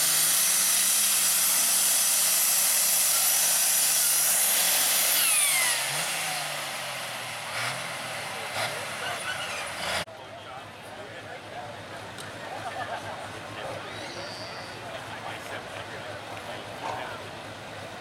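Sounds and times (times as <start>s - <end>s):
tractor engine at full power: 0.0s - 18.0s.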